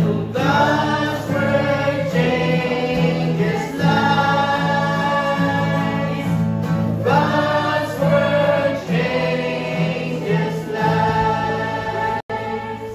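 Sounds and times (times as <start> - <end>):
choir singing a hymn: 0.0 - 12.9.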